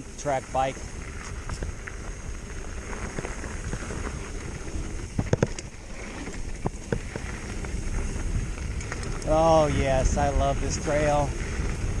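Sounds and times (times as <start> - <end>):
bike tires rumbling on dirt: 0.0 - 12.0
wind: 0.0 - 12.0.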